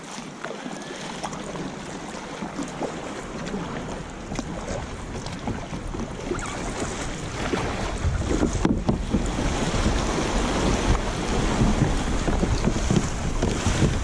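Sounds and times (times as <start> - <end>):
water splashing around kayak: 0.0 - 14.0
wind rumbling on microphone: 0.9 - 14.0.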